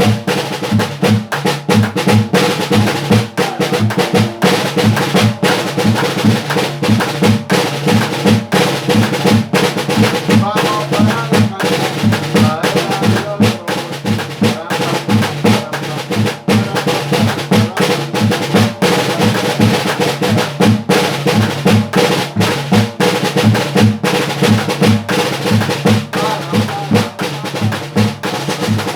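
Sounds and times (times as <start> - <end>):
snare drum rolls: 0.0 - 28.9
tin can bass beats: 0.0 - 28.9.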